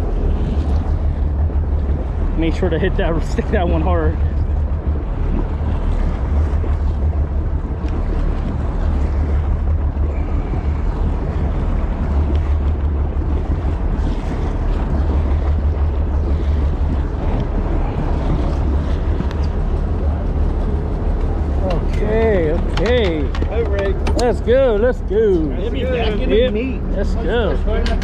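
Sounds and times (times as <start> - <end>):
sea and water noise: 0.0 - 28.0
wind rumble on microphone: 0.0 - 28.0.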